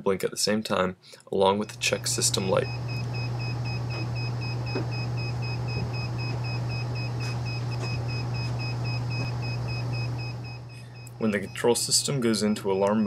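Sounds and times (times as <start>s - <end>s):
steady low hum: 1.0s - 13.0s
rapid pulsing electronic beep: 1.6s - 12.8s.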